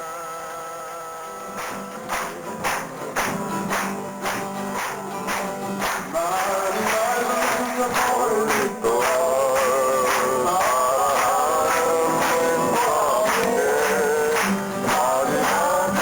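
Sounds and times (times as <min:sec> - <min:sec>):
man singing folk song: 0:00.0 - 0:16.0
steady drum beat: 0:01.6 - 0:16.0.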